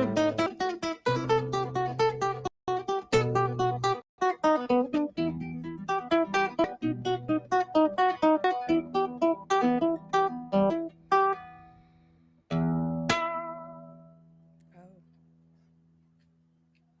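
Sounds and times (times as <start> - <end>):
acoustic guitar plucked notes: 0.0 - 14.6.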